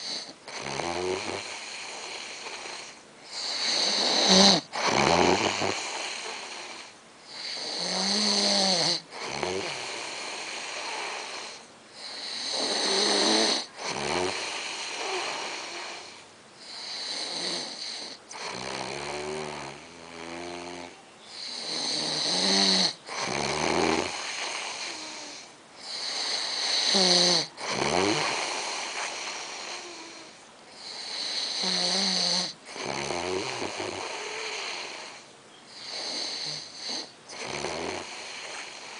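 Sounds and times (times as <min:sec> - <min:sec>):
man snoring: 0:00.0 - 0:38.9.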